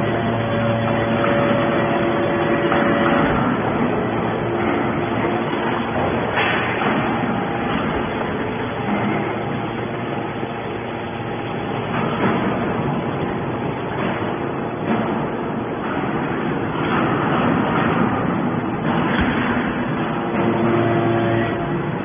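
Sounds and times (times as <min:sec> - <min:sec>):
hydraulic baler droning: 0:00.0 - 0:22.0.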